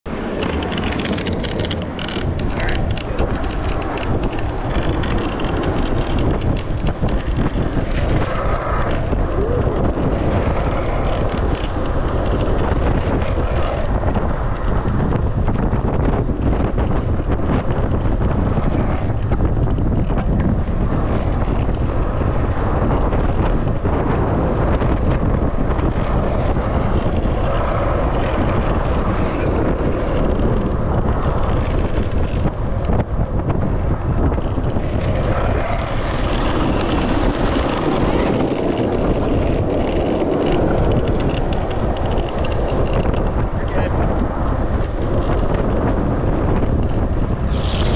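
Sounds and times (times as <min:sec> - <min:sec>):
longboard wheels rolling on asphalt: 0:00.0 - 0:47.9
wind buffeting microphone: 0:00.0 - 0:47.9.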